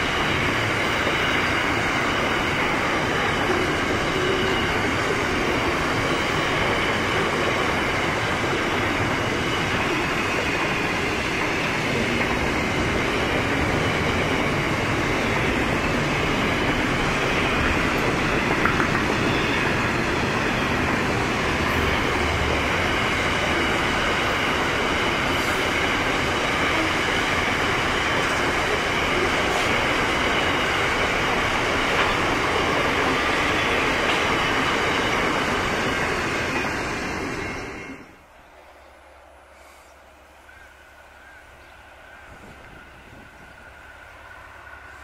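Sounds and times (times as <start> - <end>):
freight train wheels on rail: 0.0 - 45.0.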